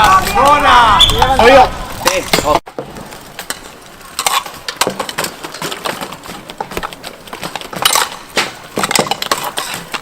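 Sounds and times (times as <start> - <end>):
bicycles clattering on hard court: 0.0 - 10.0.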